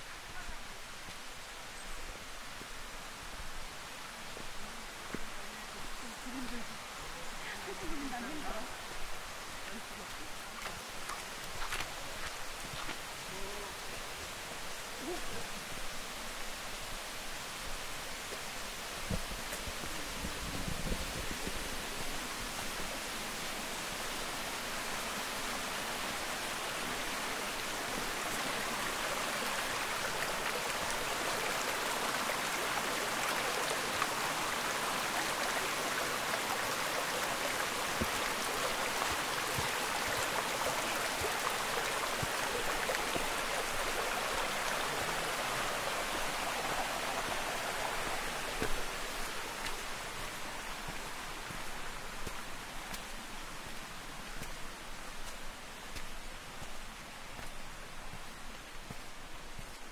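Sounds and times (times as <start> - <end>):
mountain stream rushing: 0.0 - 59.9.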